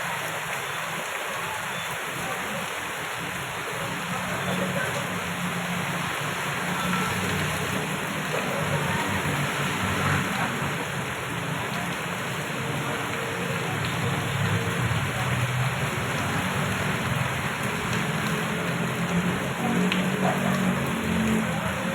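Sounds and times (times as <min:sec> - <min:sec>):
heavy rain pouring: 0:00.0 - 0:21.9
vehicles passing on wet road: 0:00.0 - 0:21.9.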